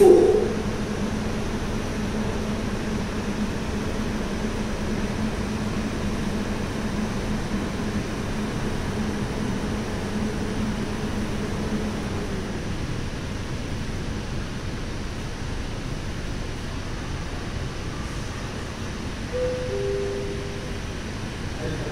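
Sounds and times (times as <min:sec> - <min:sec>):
train low hum: 0:00.0 - 0:21.9.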